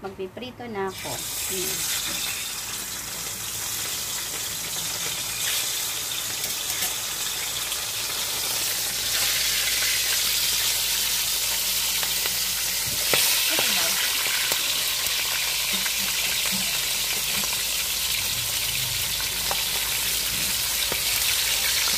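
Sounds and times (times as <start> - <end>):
fish sizzling in hot oil: 0.9 - 21.9.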